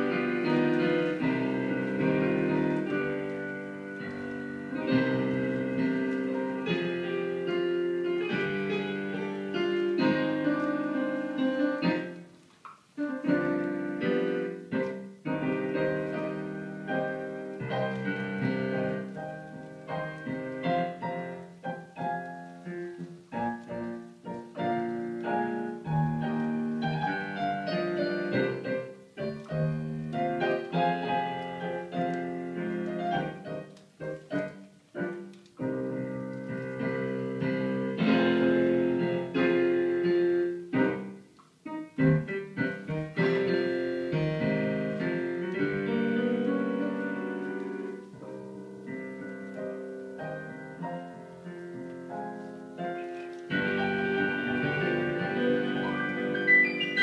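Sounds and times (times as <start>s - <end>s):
solo piano music: 0.0s - 57.0s.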